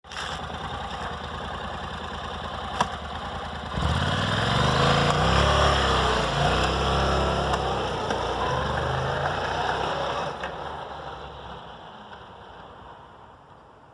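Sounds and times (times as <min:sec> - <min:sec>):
motorcycle engine idling and revving: 0:00.0 - 0:13.6.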